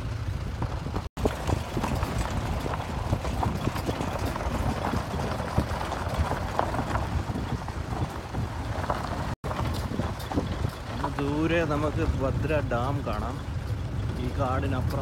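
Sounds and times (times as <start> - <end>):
vehicle engine rumble: 0.0 - 15.0
vehicle knocks and rattles: 0.0 - 15.0.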